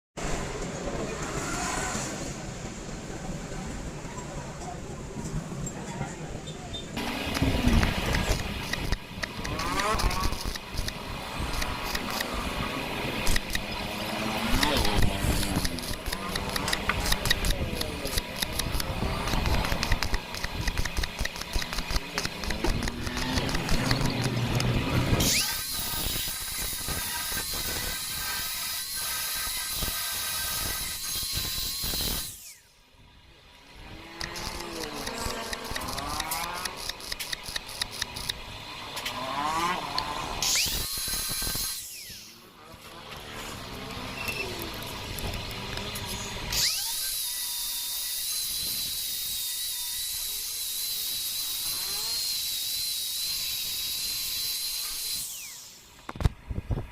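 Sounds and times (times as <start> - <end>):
high-pitched whine: 6.4 - 56.0.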